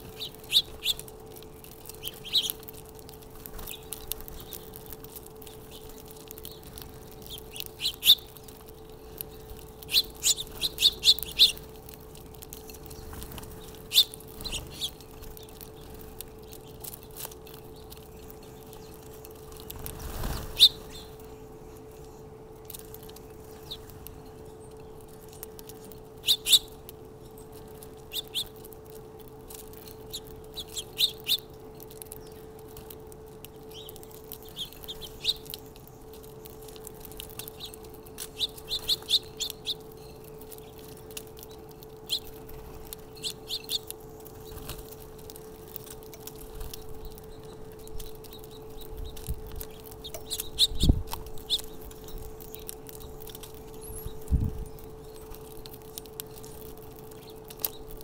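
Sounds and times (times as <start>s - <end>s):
sparrows chirping: 0.0s - 58.0s
steady low hum: 0.0s - 58.0s.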